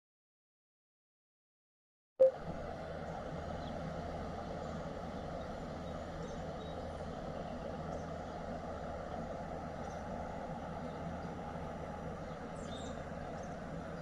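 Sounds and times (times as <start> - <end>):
low hum: 2.2 - 14.0
steady rumble: 2.2 - 14.0.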